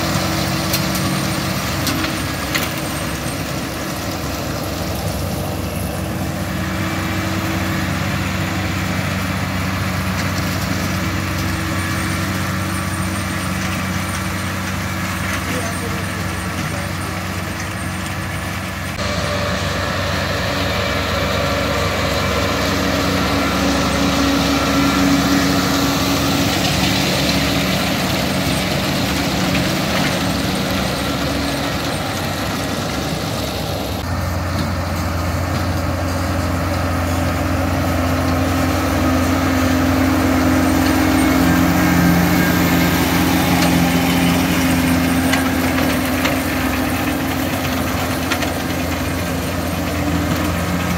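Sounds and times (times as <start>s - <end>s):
baler working noise: 0.0s - 50.9s
tractor diesel engine under load: 0.0s - 50.9s.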